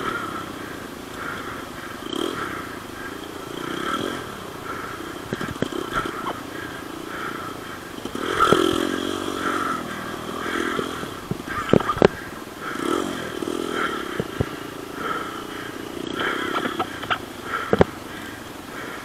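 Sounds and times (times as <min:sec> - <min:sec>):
dirt bike engines revving: 0:00.0 - 0:19.0
sharp cracks: 0:01.1 - 0:19.0.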